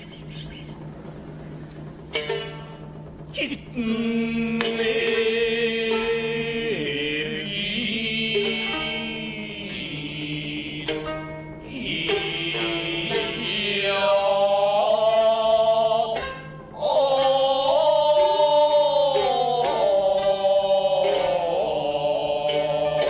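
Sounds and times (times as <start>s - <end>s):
chanter's voice with bending notes: 0.0s - 23.0s
sharp plucked string notes: 0.0s - 23.0s.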